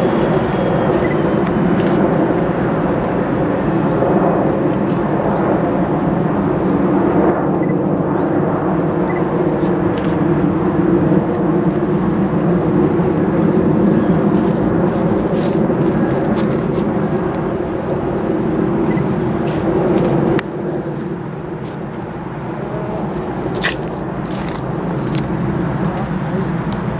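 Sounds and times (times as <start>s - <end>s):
diesel locomotive engines droning: 0.0s - 26.9s.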